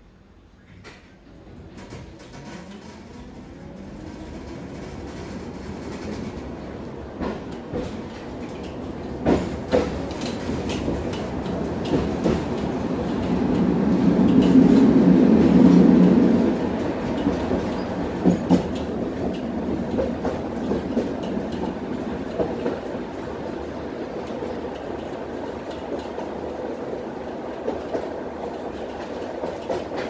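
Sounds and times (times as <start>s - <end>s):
tram wheels rumbling: 0.2s - 30.0s.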